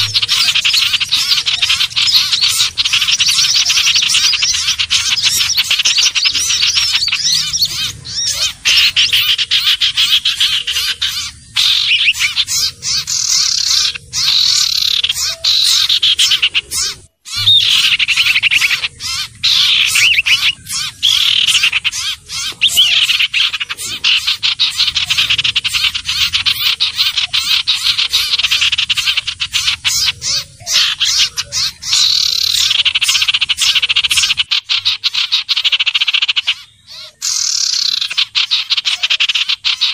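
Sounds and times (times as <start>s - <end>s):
bird calling in rattling trill: 0.0s - 39.9s.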